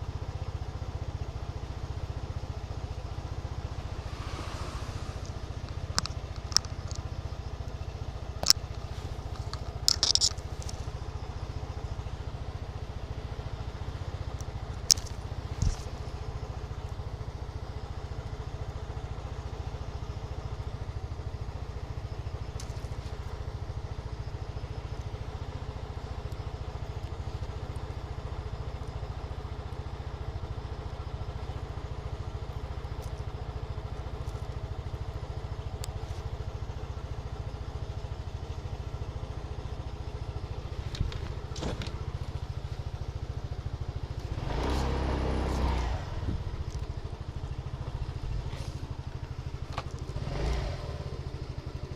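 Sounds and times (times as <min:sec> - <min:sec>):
motorcycle engine rumble: 0:00.0 - 0:51.9
road noise: 0:00.0 - 0:51.9.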